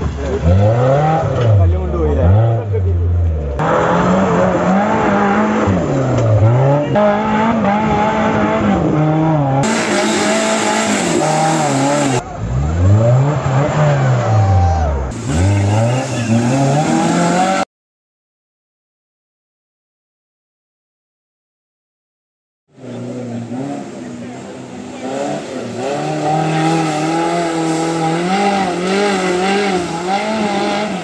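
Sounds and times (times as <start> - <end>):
off-road engines revving: 0.0 - 17.7, 22.8 - 31.0.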